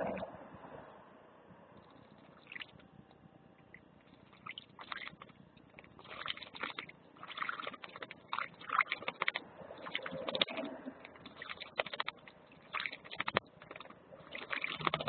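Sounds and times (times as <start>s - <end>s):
birds splashing in water: 1.9s - 2.8s, 3.7s - 15.0s.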